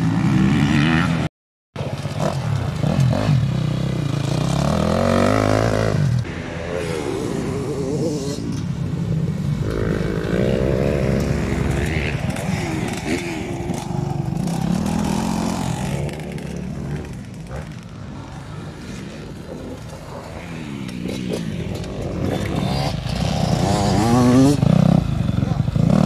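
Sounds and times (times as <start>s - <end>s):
dirt bike passing close: 0.0s - 26.0s
dirt bike engine revving: 1.9s - 26.0s.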